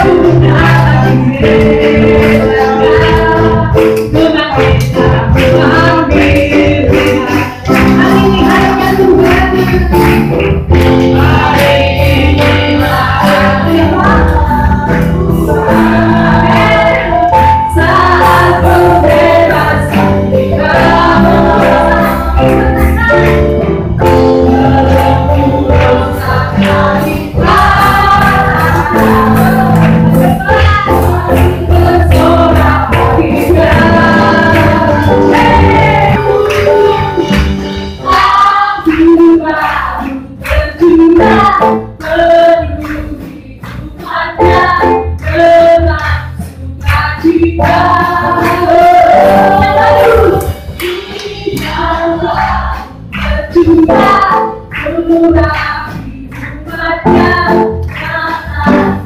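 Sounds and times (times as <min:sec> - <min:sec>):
band music with steady beat: 0:00.0 - 0:59.0
congregation singing: 0:00.0 - 0:59.0.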